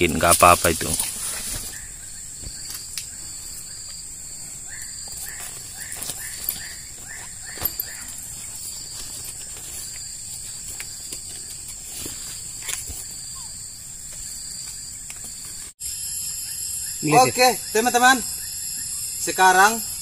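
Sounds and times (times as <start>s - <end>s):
crickets and insects chirping: 0.0s - 20.0s.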